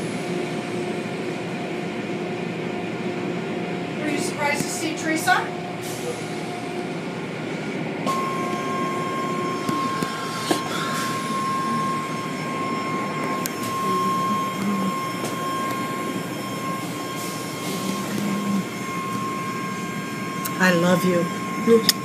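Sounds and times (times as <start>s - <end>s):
steady machine whine: 0.0s - 22.0s.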